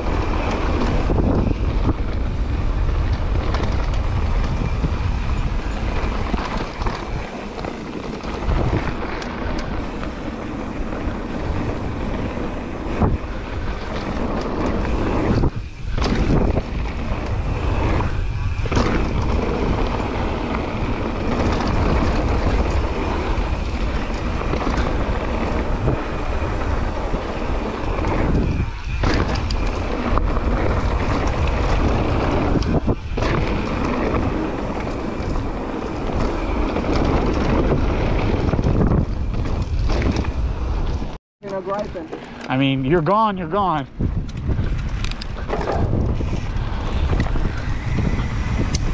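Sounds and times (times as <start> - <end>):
bike knocks and rattles: 0.0 - 42.7, 44.2 - 48.9
tyres rolling over gravel: 0.0 - 43.4
wind rush on microphone: 0.0 - 48.9.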